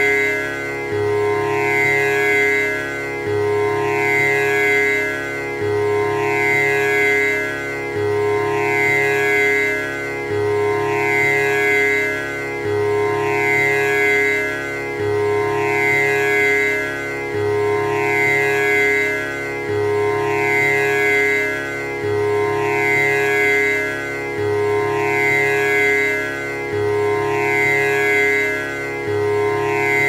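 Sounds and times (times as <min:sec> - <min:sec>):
tanpura drone: 0:00.0 - 0:30.0.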